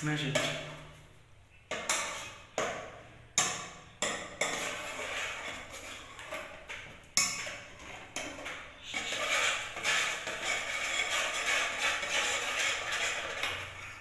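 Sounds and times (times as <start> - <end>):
whisk beating batter: 1.7 - 14.0
whisk knocking metal pot: 1.7 - 14.0.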